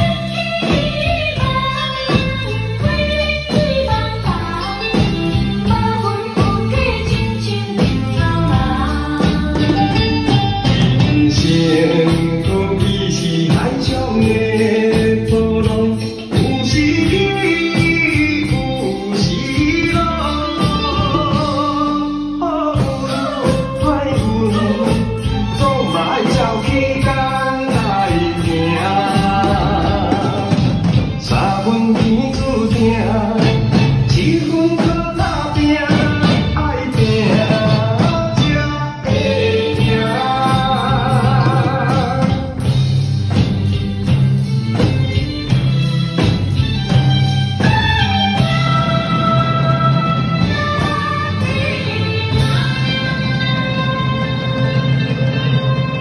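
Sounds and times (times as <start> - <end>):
person singing: 0.0 - 42.7, 47.6 - 55.2
drum kits playing together: 0.0 - 56.0
song with sung melody: 0.0 - 56.0.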